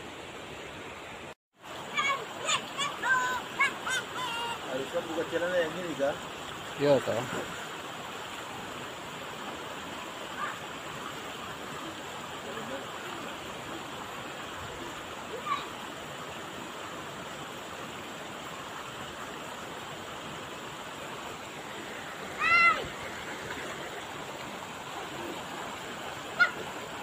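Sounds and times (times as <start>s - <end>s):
river flowing over rocks: 0.0s - 27.0s.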